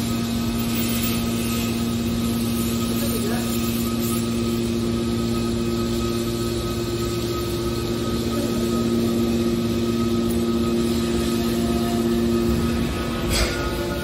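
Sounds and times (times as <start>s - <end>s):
hydraulic baler machine hum: 0.0s - 14.0s.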